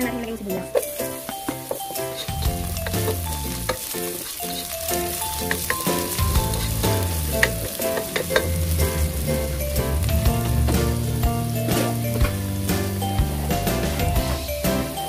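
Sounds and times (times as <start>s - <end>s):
garlic and onion sizzling in oil: 0.0s - 15.0s.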